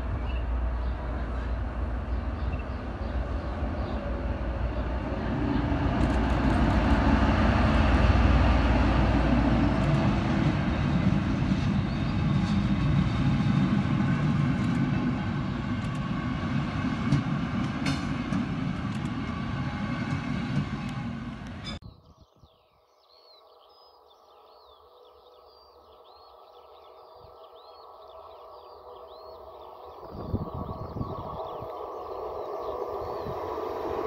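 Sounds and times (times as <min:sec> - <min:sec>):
deep train rumble: 0:00.0 - 0:21.9, 0:24.2 - 0:34.0.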